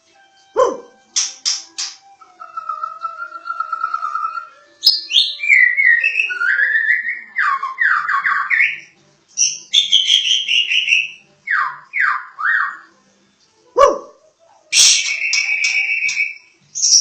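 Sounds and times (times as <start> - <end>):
bird singing whistled song: 0.6 - 12.9, 14.7 - 17.0.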